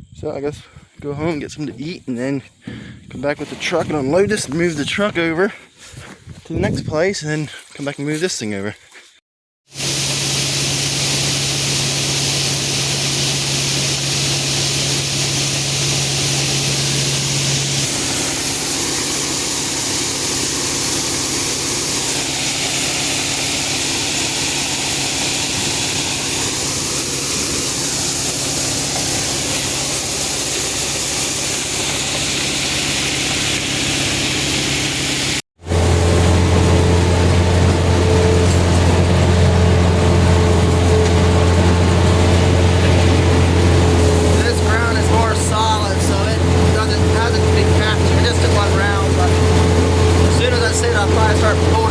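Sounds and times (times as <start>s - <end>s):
vehicle engine running: 9.7s - 51.9s.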